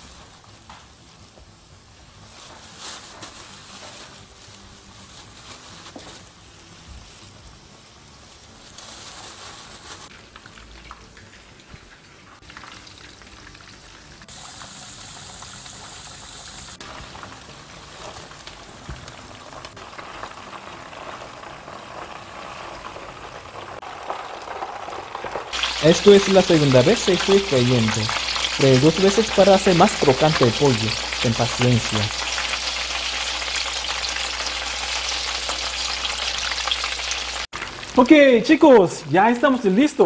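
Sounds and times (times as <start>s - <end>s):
chicken deep-frying in oil: 0.0s - 40.0s.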